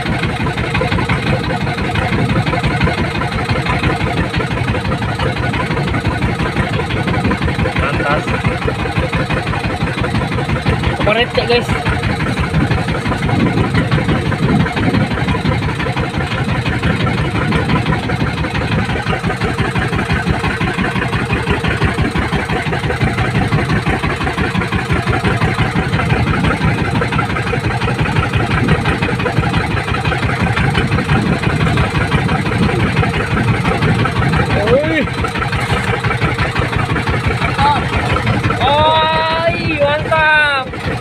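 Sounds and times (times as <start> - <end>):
small boat engine running: 0.0 - 41.0.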